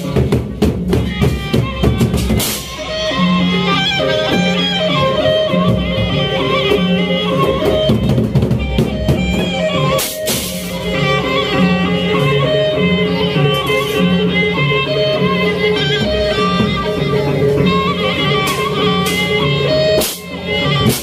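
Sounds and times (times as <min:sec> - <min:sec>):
band music with drum beat: 0:00.0 - 0:21.0.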